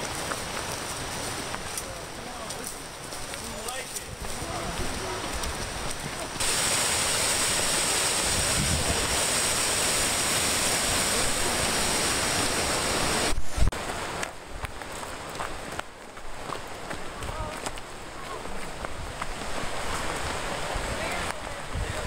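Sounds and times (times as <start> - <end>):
stream rushing over boulders: 0.0 - 22.0.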